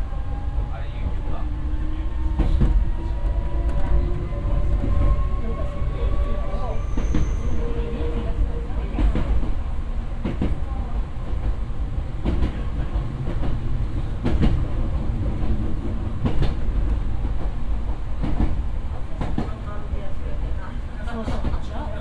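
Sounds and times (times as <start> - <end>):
electric train low rumble: 0.0 - 22.0.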